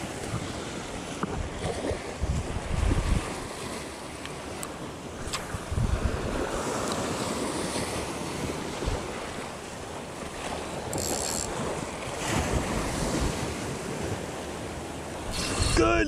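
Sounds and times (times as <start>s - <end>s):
wind buffeting microphone: 0.0s - 3.8s, 4.4s - 16.0s
small waves splashing: 0.0s - 16.0s.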